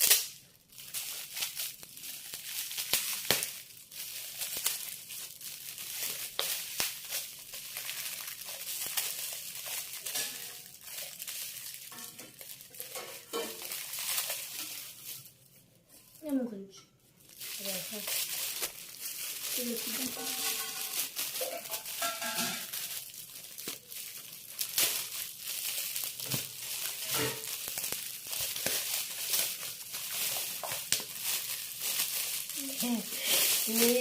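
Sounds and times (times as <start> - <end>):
gift wrapping crinkling and tearing: 0.0 - 16.6, 17.2 - 34.0.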